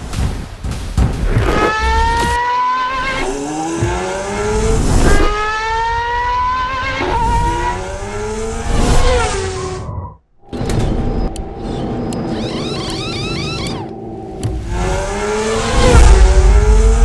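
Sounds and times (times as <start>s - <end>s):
racing car engine accelerating: 1.4s - 10.0s, 11.0s - 17.0s.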